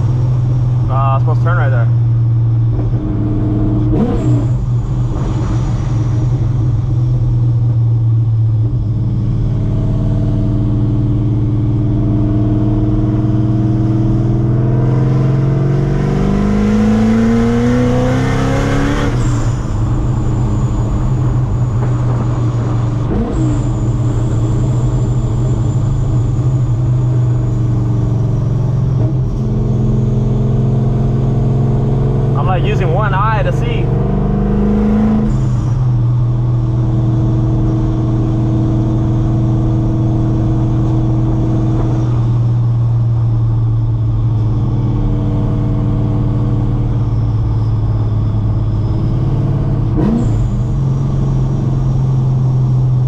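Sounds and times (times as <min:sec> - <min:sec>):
car engine accelerating: 0:00.0 - 0:53.0
supercharger whine: 0:00.0 - 0:53.0.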